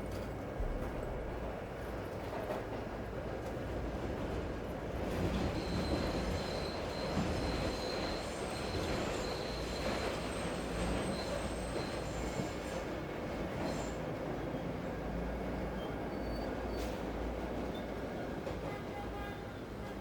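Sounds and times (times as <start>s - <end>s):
city noise: 0.0s - 20.0s
train running past: 0.7s - 20.0s.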